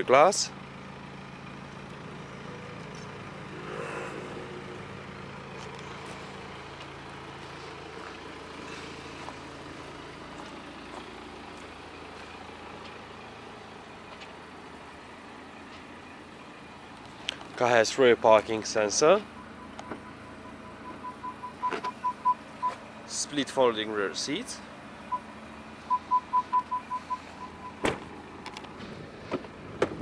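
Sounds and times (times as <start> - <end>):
outdoor background noise: 0.0 - 30.0
vehicle engine humming: 0.0 - 30.0.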